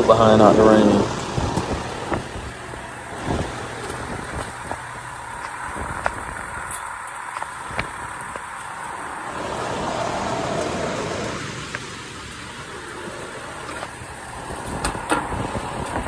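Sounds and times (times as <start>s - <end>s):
air conditioner condenser running: 0.0s - 16.0s
rain falling: 0.0s - 16.0s
rushing noise: 0.0s - 16.0s.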